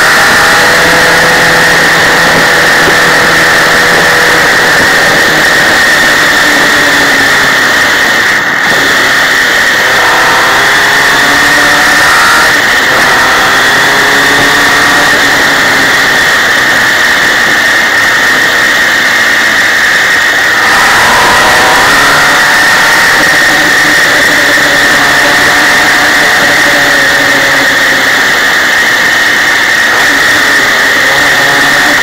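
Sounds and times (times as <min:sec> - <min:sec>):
motorcycle engine running: 0:00.0 - 0:32.0
steady high whine: 0:00.0 - 0:32.0
wind rush on microphone: 0:00.0 - 0:32.0.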